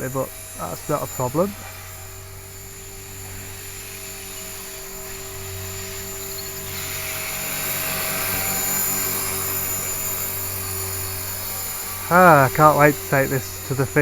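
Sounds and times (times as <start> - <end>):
rc helicopter rotor and motor whine: 0.0 - 14.0.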